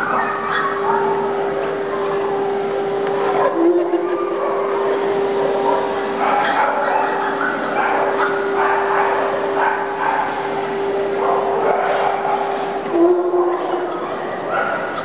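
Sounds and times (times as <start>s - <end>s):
dogs barking: 0.0s - 15.0s
grooming dryer motor whine: 0.0s - 15.0s.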